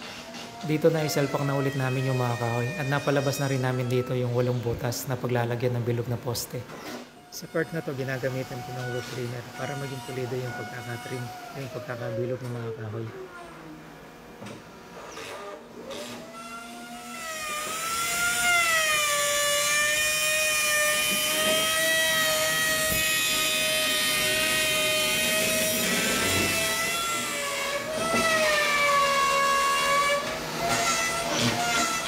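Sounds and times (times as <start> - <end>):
electric wood trimmer whining: 0.0 - 6.0, 7.2 - 13.0, 15.8 - 32.0.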